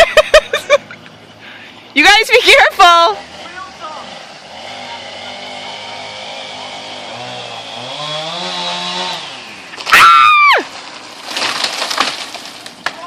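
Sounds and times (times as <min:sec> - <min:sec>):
chainsaw cutting through tree: 0:02.4 - 0:13.0.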